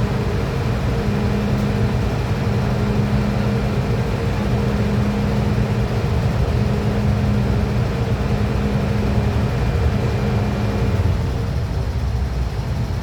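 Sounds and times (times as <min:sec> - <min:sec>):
steady hum: 0:00.0 - 0:11.5
train running rumble: 0:00.0 - 0:13.0.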